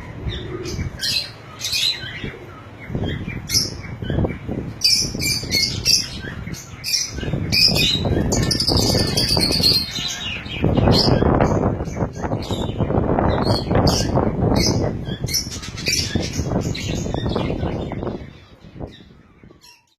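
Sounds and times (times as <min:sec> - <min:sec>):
lovebirds chirping and squawking: 0:00.0 - 0:19.9.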